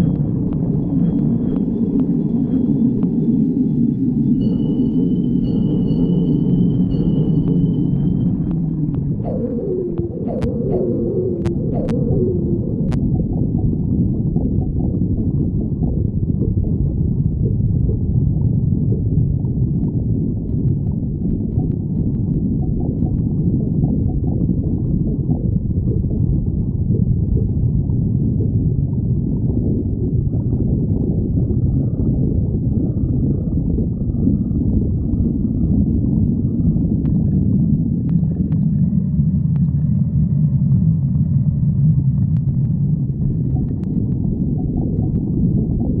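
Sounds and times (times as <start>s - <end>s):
stomach growling and gurgling: 0.0s - 46.0s.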